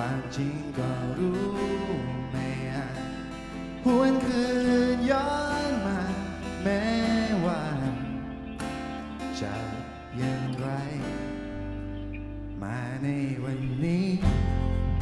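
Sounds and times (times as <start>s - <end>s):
man singing into microphone: 0.0s - 8.4s, 9.2s - 11.5s, 12.6s - 15.0s
strummed acoustic guitar: 0.0s - 15.0s.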